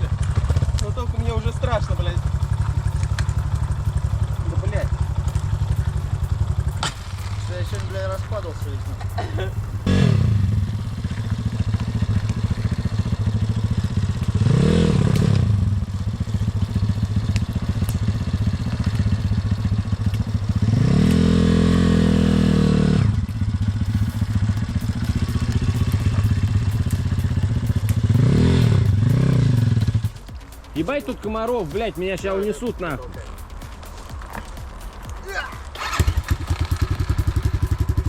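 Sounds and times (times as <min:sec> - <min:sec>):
motorbike engine revving: 0:00.0 - 0:30.4, 0:35.5 - 0:38.0.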